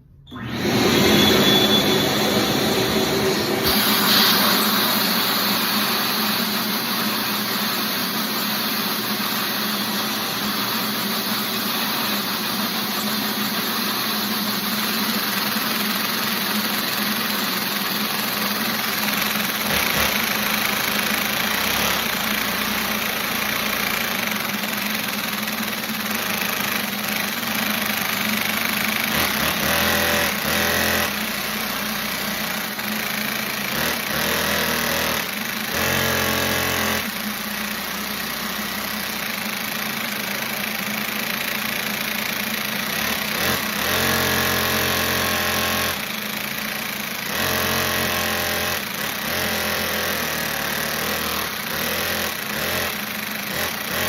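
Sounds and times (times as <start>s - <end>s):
small engine running at high speed: 0.3s - 54.0s.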